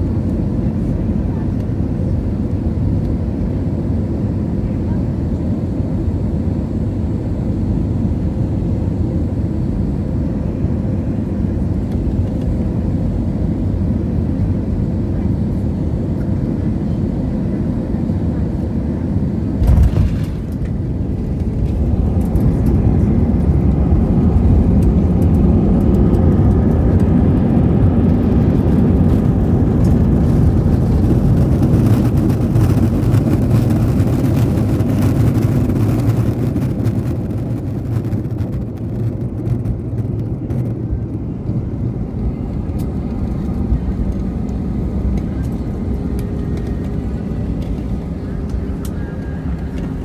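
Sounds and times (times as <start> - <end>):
jet engines in reverse thrust: 0.0 - 50.0.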